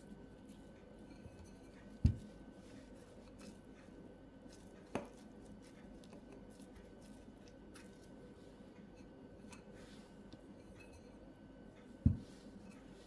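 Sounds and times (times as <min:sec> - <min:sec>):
faint handling sounds: 0:00.0 - 0:13.0.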